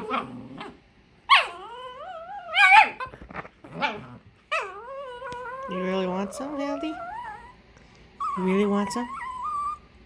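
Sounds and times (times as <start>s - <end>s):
dog whining: 0.0s - 7.6s, 8.2s - 10.0s.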